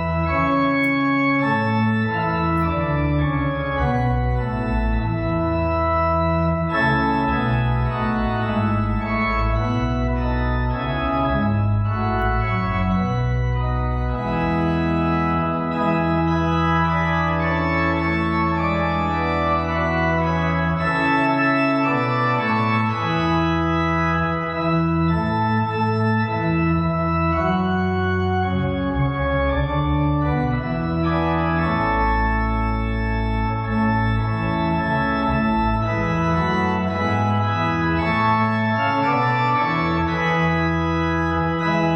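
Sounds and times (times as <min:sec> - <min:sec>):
deep organ pedal bass: 0:00.0 - 0:41.9
organ sustained chords: 0:00.0 - 0:41.9.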